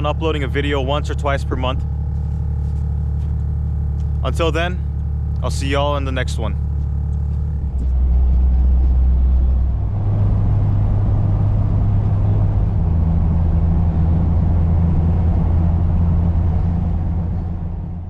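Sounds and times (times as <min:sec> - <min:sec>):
car engine drone: 0:00.0 - 0:18.0
road and tyre noise: 0:00.0 - 0:18.0.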